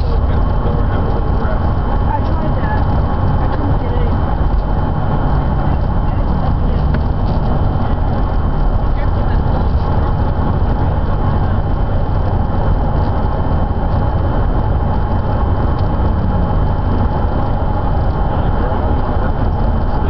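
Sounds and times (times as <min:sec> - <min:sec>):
car road noise rumble: 0:00.0 - 0:20.0.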